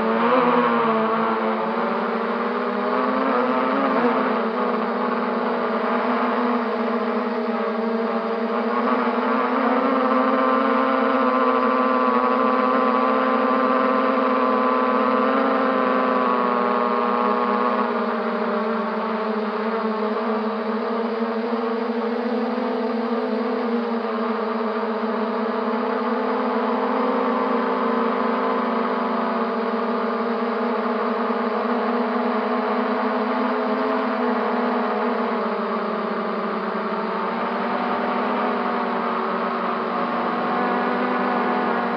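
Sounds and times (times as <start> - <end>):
quadcopter motors droning: 0.0 - 41.9.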